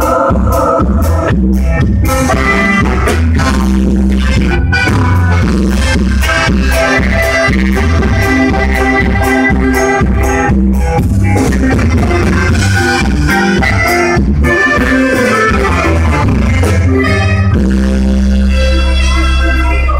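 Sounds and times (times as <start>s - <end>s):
accordion: 0.0s - 19.9s
band playing instrumental music: 0.0s - 19.9s
saxophone: 0.1s - 19.9s.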